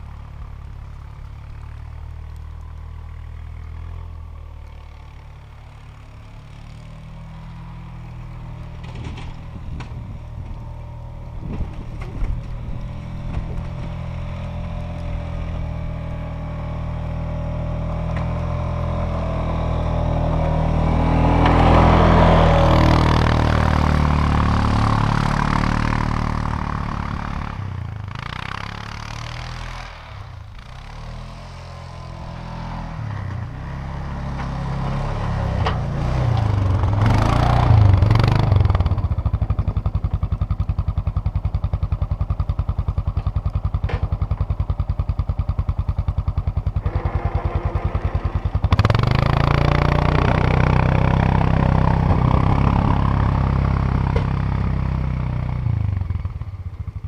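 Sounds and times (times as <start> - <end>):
plow blade pushing snow: 0.0 - 56.9
quad bike engine running: 0.0 - 57.0.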